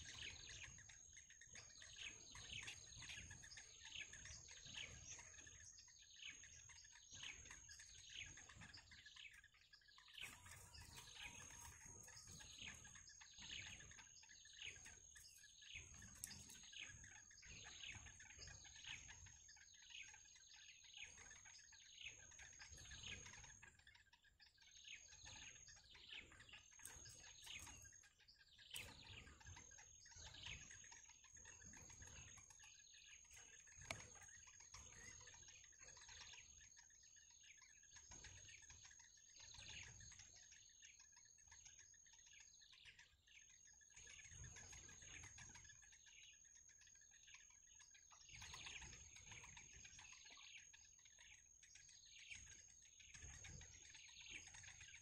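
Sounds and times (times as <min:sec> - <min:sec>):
nestlings chirping: 0:00.0 - 0:42.4, 0:43.1 - 0:55.0.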